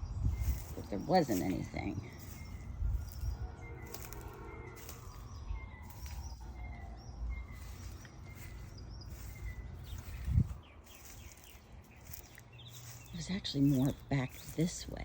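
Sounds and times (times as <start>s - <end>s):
small birds chirping: 0.0s - 15.0s
wind rumble: 0.0s - 15.0s.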